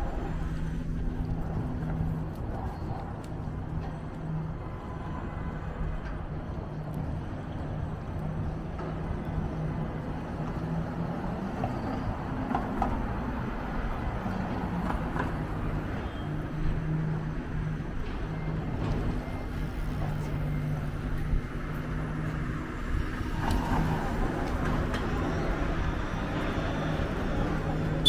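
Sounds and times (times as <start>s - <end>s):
rumble of passing traffic: 0.0s - 28.0s.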